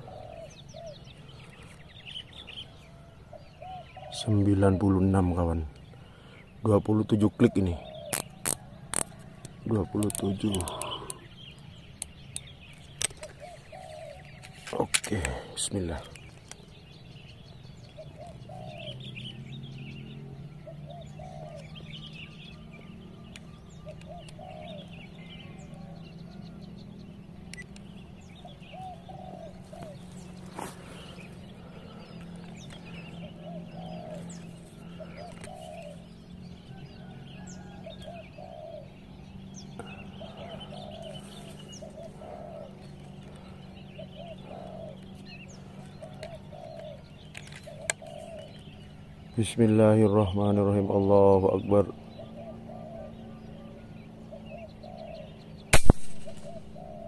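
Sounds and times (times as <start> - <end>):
doves cooing: 0.0 - 57.0
low steady drone: 0.0 - 57.0
small birds chirping: 0.0 - 57.0.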